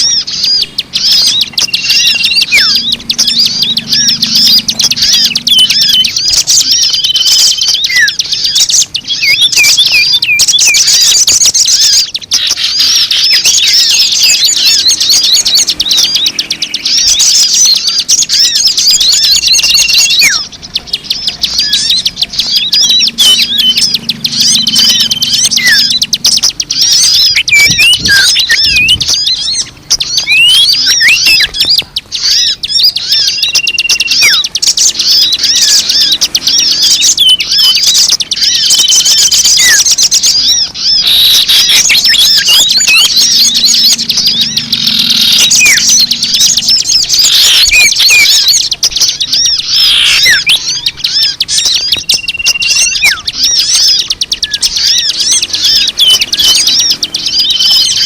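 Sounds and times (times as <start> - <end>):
small birds chirping and twittering: 0.0 - 58.0
whistled bird notes: 0.0 - 58.0.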